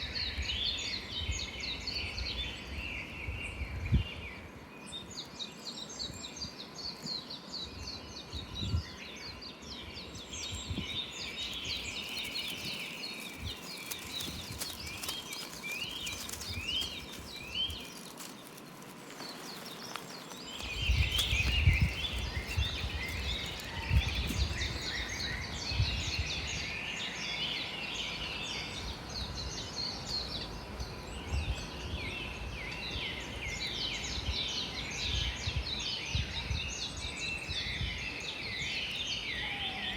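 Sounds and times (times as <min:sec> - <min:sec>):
birds singing and calling: 0:00.0 - 0:39.9.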